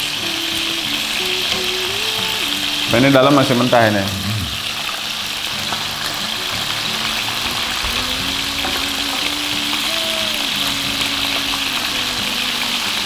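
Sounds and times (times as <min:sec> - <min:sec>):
chicken wings sizzling in oil: 0:00.0 - 0:13.0
soft background music: 0:00.0 - 0:13.0.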